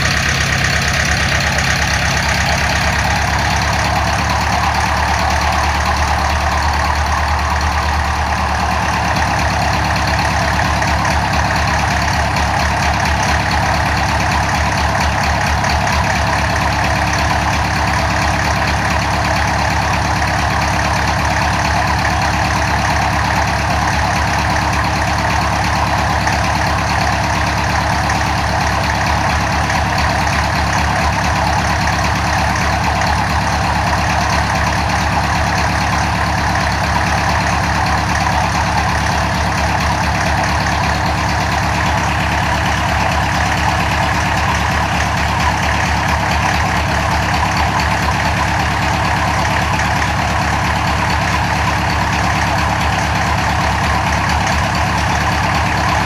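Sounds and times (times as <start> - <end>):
helicopter engine idling: 0.0 - 56.0.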